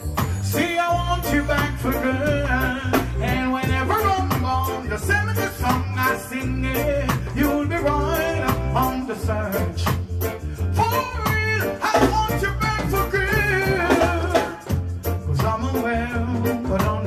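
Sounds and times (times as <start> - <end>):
reggae band playing: 0.0 - 17.0
man singing: 0.2 - 17.0.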